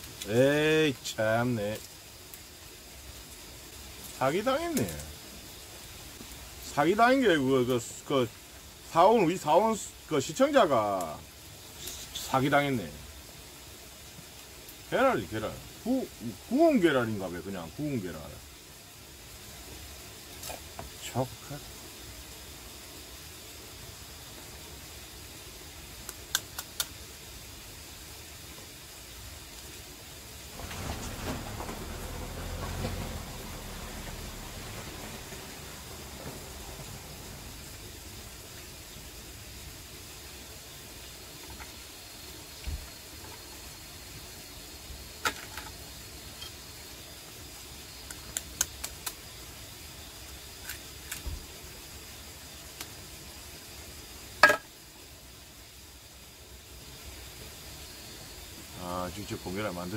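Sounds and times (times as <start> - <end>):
steady low hiss: 0.0 - 59.9.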